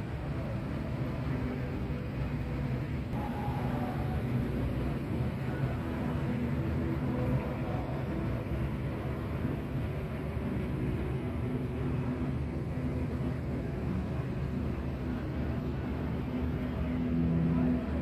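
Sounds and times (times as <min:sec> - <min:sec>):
distant engines and traffic rumble: 0:00.0 - 0:18.0
low hum: 0:00.0 - 0:18.0.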